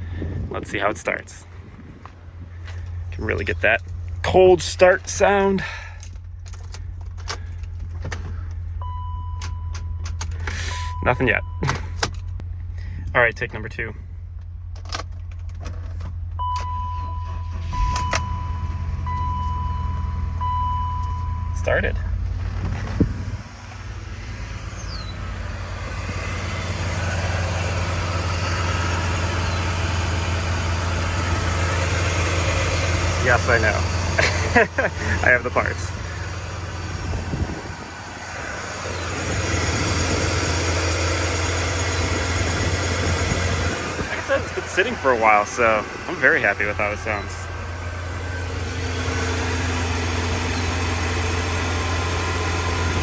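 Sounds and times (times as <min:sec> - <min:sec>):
car engine starting and idling: 0:00.0 - 0:53.0.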